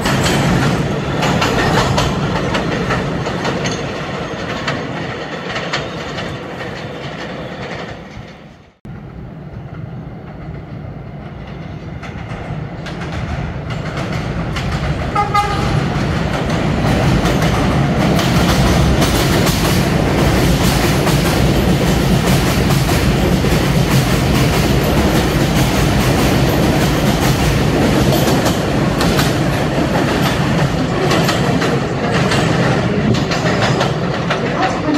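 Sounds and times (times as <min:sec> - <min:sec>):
subway train wheels clattering: 0:00.0 - 0:34.9.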